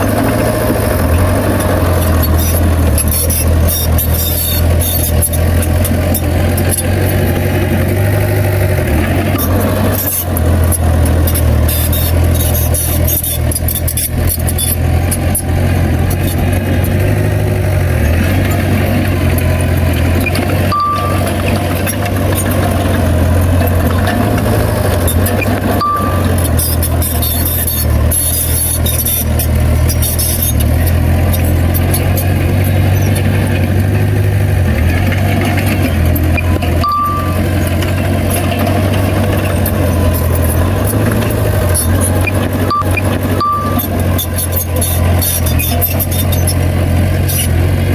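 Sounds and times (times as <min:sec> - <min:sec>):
bulldozer diesel engine droning: 0:00.0 - 0:47.9.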